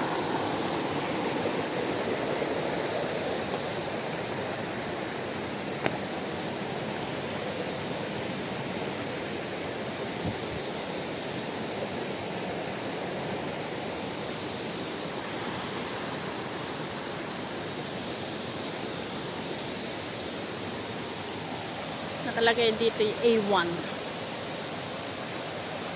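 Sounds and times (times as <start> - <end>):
stream and waterfall rushing: 0.0 - 25.9.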